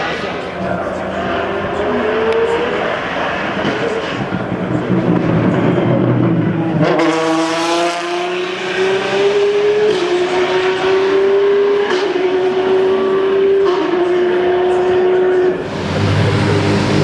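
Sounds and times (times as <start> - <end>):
car engine accelerating: 0.1 - 17.0.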